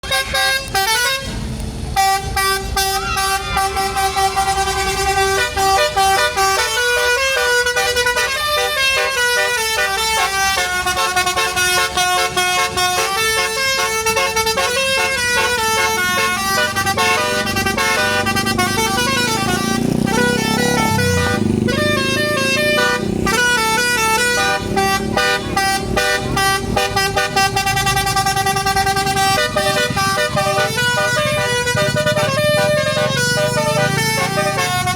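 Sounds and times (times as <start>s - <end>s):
musical horn playing tune: 0.0s - 1.4s, 2.0s - 34.9s.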